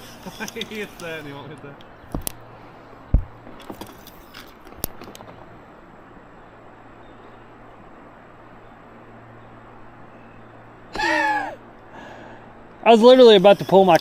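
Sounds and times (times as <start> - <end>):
faint river hiss: 0.0 - 14.0.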